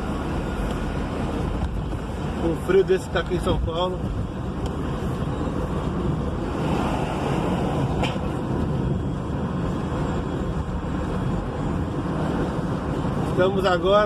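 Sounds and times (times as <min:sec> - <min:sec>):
car engine and tyre rumble: 0:00.0 - 0:14.0
road traffic: 0:00.0 - 0:14.0.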